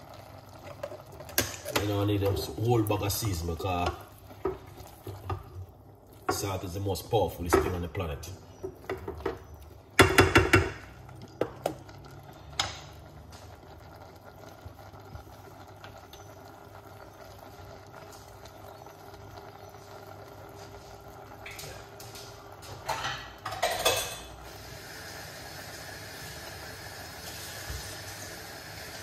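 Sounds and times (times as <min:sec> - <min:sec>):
vegetables sizzling in pan: 0:00.0 - 0:07.7, 0:08.5 - 0:29.0.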